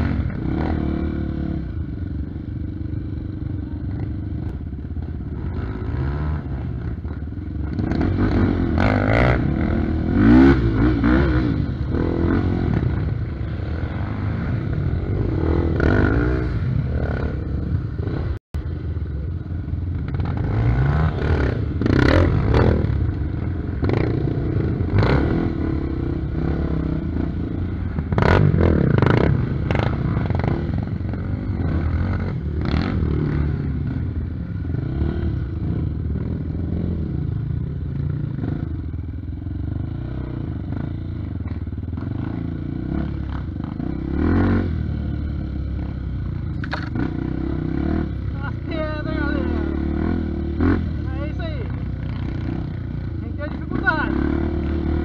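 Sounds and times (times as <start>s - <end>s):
dirt bike engine revving: 0.0s - 1.8s, 5.3s - 18.8s, 19.9s - 55.0s
dirt bike passing close: 3.9s - 18.8s, 19.8s - 39.0s, 39.6s - 55.0s.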